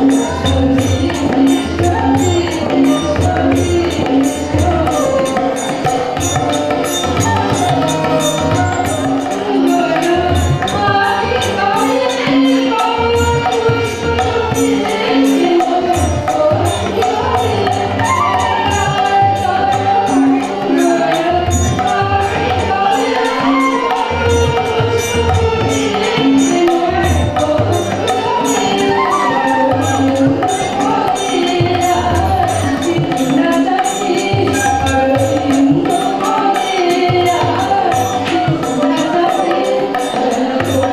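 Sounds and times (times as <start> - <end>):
hand percussion beat: 0.0 - 40.9
harmonium: 0.0 - 40.9
woman singing into a microphone: 0.0 - 40.9.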